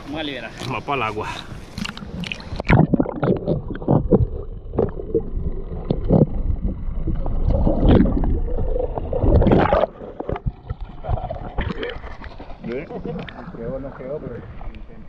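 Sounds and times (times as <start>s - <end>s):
underwater sloshing and gurgling: 0.0s - 15.0s.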